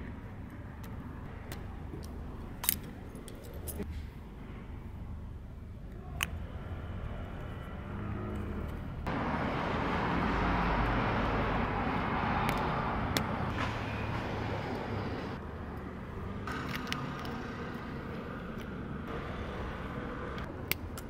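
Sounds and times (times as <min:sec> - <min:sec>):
outdoor traffic noise: 0:00.0 - 0:21.0.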